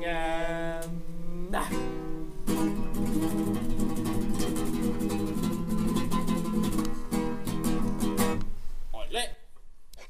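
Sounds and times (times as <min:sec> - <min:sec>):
acoustic guitar strumming: 0:00.3 - 0:08.6.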